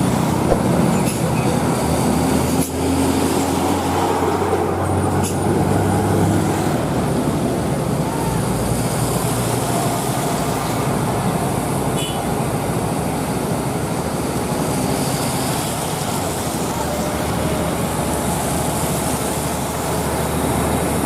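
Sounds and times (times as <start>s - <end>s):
heavy truck engine running: 0.0s - 21.0s
road and traffic noise: 0.0s - 21.0s.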